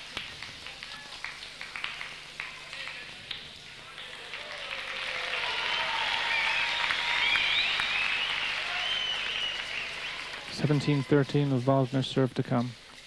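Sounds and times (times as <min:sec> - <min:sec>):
audience applauding: 0:00.0 - 0:12.4
high calls from crowd: 0:00.8 - 0:12.3.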